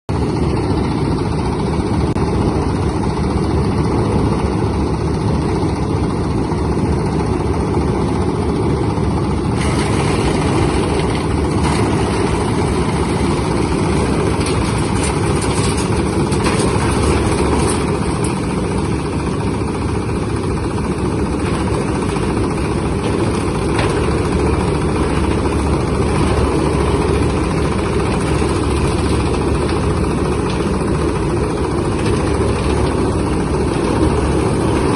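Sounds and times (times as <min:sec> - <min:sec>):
machine motor drone: 0:00.1 - 0:34.9.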